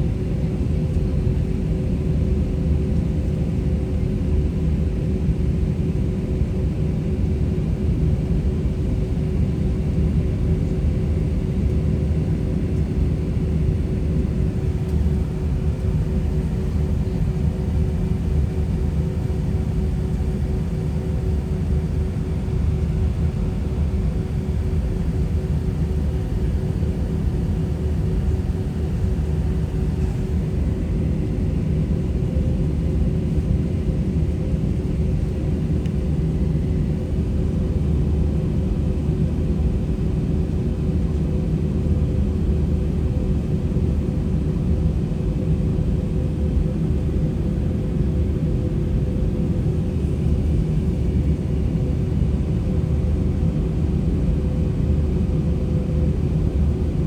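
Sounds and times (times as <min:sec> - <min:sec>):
jet engines in airplane cabin: 0:00.0 - 0:57.0.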